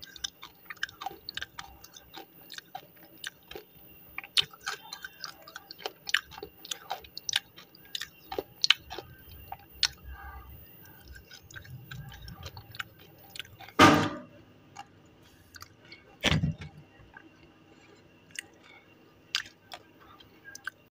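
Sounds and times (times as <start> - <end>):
crunchy chewing: 0.0 - 13.8, 14.7 - 20.9.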